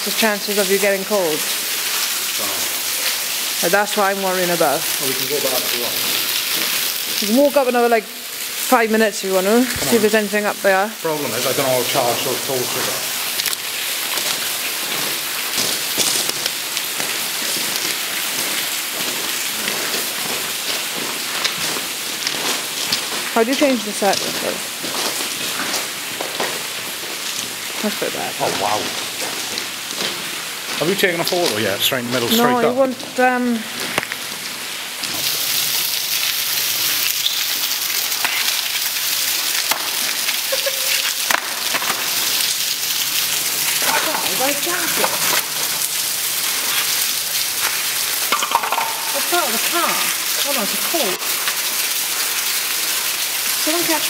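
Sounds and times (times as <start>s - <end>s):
water dripping and trickling: 0.0s - 54.0s.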